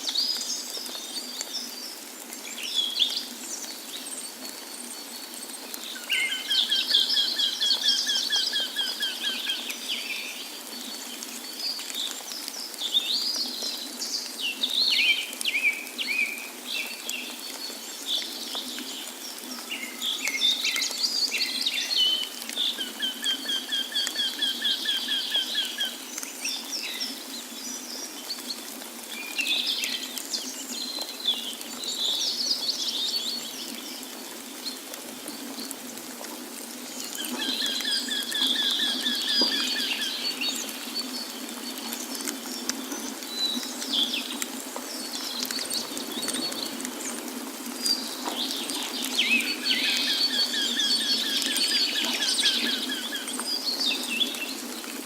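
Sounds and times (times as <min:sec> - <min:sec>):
songbirds singing and chirping: 0:00.0 - 0:35.9, 0:36.7 - 0:55.0
flowing water rushing: 0:00.0 - 0:55.0.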